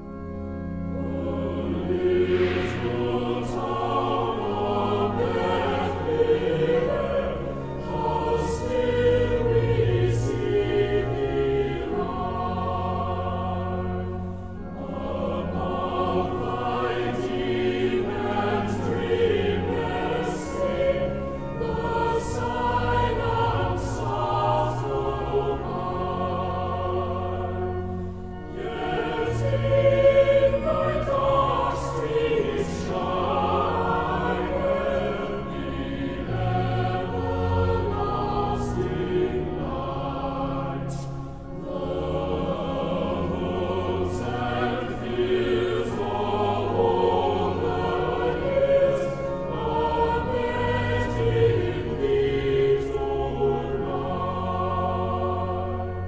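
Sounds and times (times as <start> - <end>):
choir singing: 0.0 - 56.0
sustained low accompaniment: 0.0 - 56.0.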